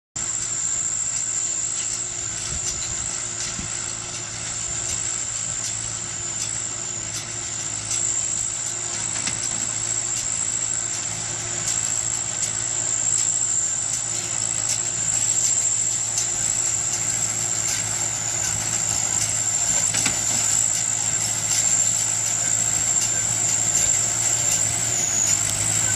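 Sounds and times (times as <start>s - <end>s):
hay baler drone with whine: 0.2s - 25.9s.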